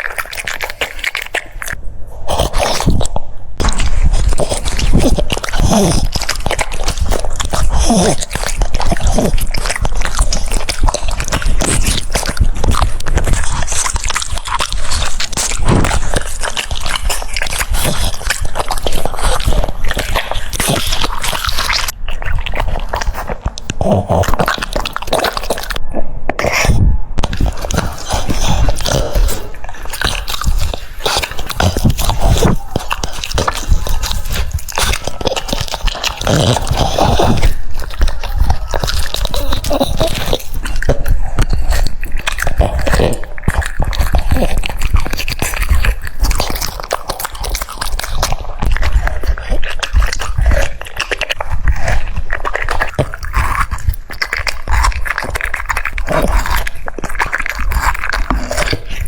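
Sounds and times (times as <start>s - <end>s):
dog chewing wet food: 0.0s - 59.0s.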